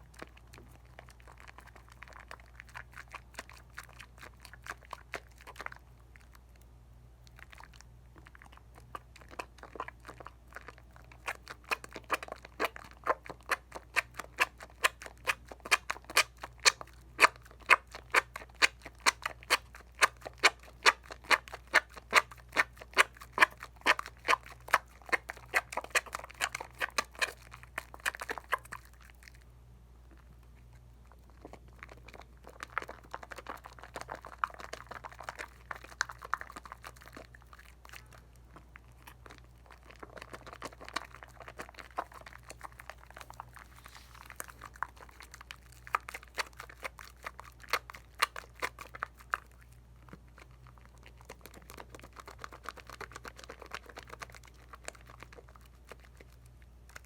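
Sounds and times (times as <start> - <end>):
soap lather squishing and popping: 0.0 - 29.4, 30.4 - 57.0.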